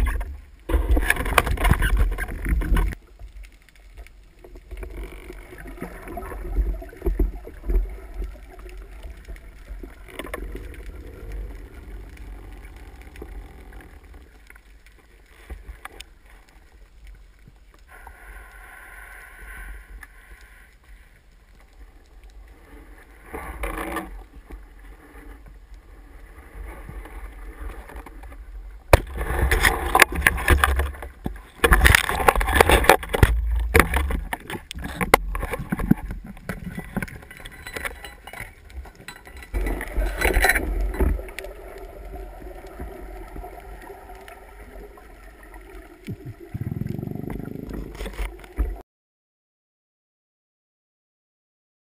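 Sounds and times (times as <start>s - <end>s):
water moving underwater: 0.0s - 48.8s.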